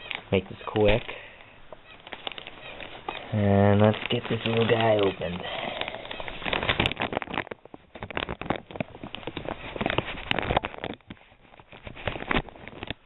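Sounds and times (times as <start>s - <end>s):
package clicks and scratches: 1.8s - 13.0s.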